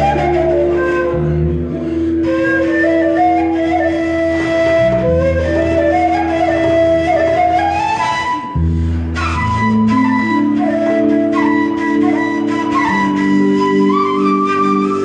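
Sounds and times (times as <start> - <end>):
end-blown flute melody: 0.0 - 15.0
low bass notes: 0.0 - 15.0.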